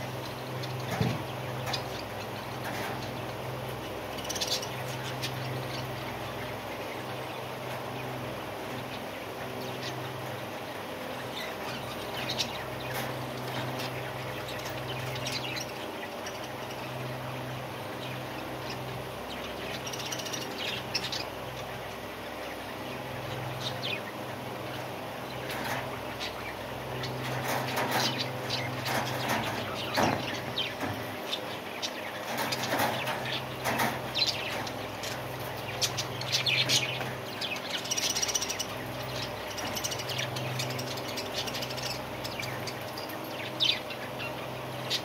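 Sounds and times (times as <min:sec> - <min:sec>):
budgerigars chirping: 0:08.7 - 0:45.0.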